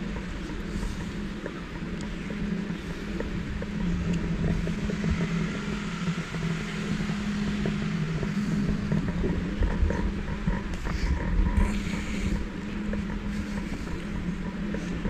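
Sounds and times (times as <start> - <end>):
city street noise: 0.0 - 15.0
gimbal motors humming: 0.0 - 15.0.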